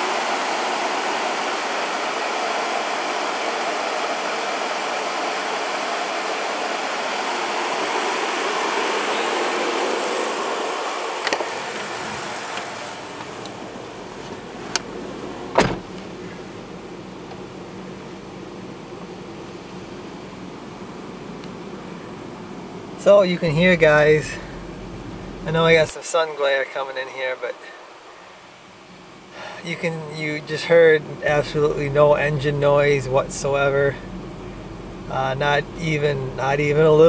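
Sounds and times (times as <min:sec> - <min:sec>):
pickup engine idling: 0:00.0 - 0:25.9, 0:28.0 - 0:37.0.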